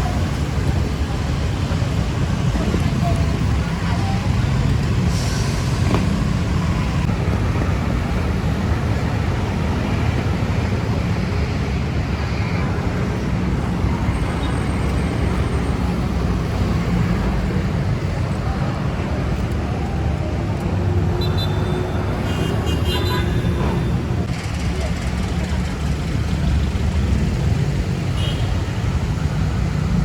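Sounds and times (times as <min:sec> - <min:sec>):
city road traffic: 0:00.0 - 0:30.0.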